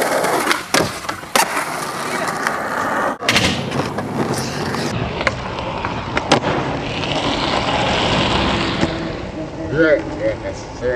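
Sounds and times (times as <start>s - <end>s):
skateboard clacking: 0.0s - 9.1s
skateboard wheels rolling on concrete: 0.0s - 10.9s.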